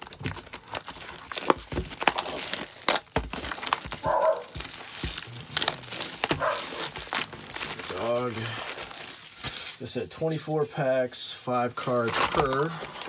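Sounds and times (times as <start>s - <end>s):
shrink-wrap crinkling: 0.0s - 10.9s, 11.7s - 13.0s.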